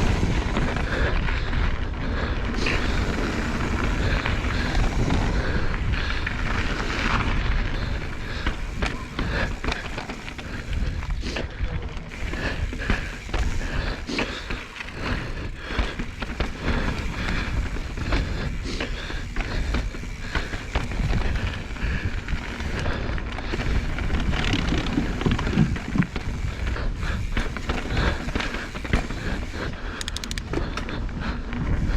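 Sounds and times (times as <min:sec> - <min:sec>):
bike knocking and rattling: 0:00.0 - 0:31.9
bike tyres rolling on dirt: 0:00.0 - 0:31.9.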